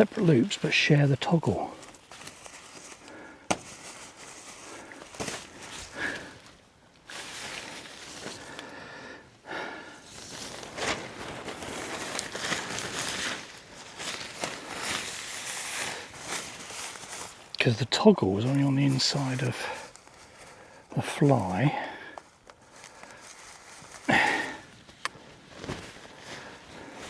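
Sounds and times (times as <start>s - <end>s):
tent fabric rustling and crinkling: 0.0s - 27.0s.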